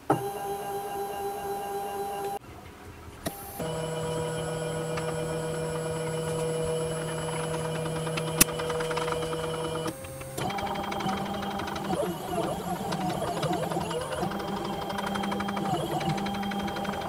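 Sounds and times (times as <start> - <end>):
stepper motors whining: 3.3 - 17.0.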